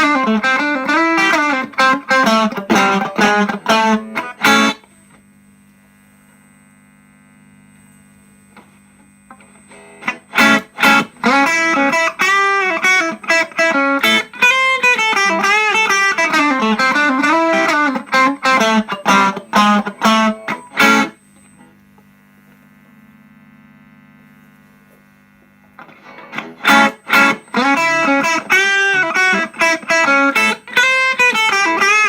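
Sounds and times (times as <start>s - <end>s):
overdriven electric guitar riff: 0.0s - 5.3s, 8.3s - 24.2s, 24.8s - 32.0s
amplifier hum: 0.0s - 32.0s.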